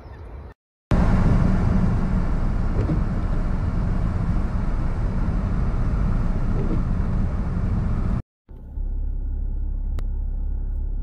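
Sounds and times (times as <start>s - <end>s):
car cabin road and wind rumble: 0.9s - 11.0s.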